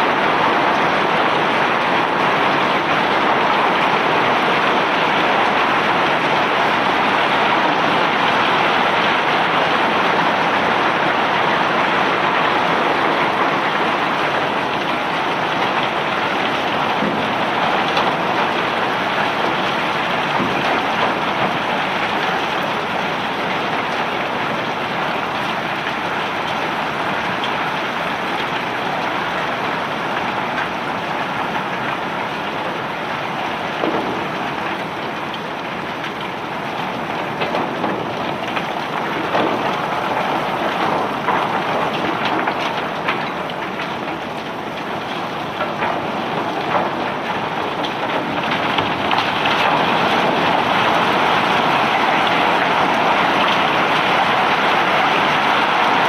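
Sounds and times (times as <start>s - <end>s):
rock cargo pouring: 0.1s - 24.4s, 31.6s - 56.0s.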